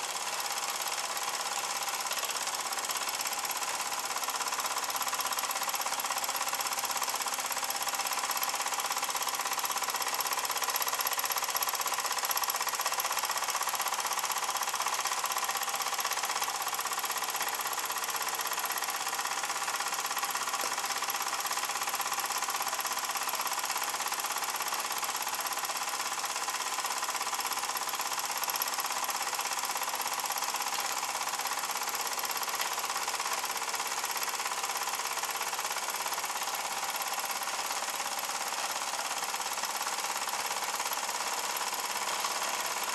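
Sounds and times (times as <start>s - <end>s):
toy steam engine chuffing: 0.0s - 42.9s.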